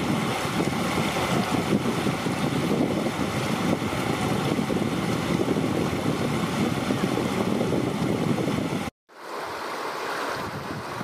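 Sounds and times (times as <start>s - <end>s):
floodwater rushing and splashing: 0.0s - 11.0s.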